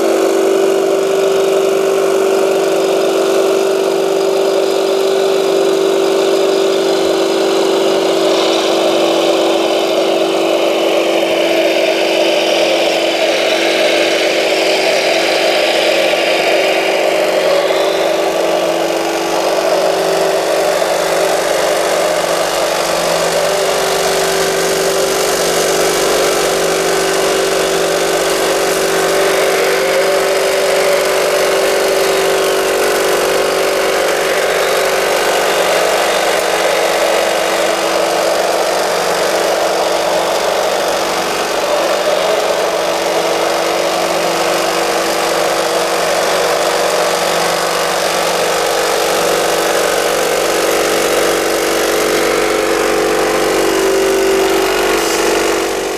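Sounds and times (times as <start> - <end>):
high machine whine: 0.0 - 55.9
model motor hum: 0.0 - 55.9.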